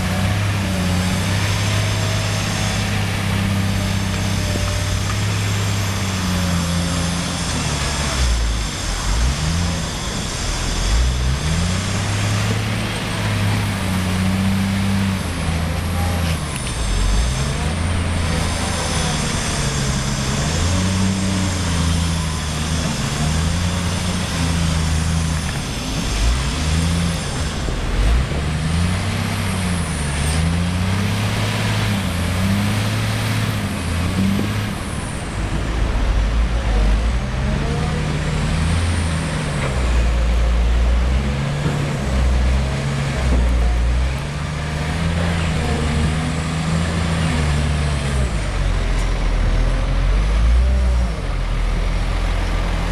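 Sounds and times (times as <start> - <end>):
diesel engine revving: 0.0 - 52.9.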